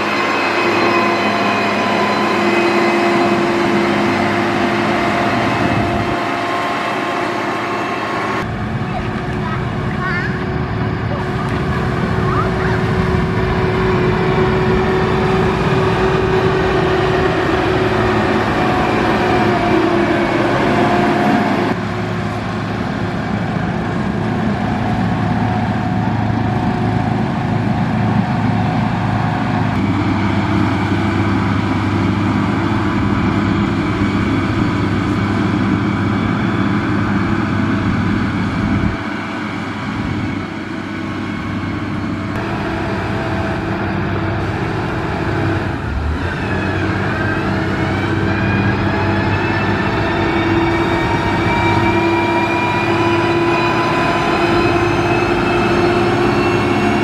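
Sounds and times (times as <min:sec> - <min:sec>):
diesel machinery engine droning: 0:00.0 - 0:57.0.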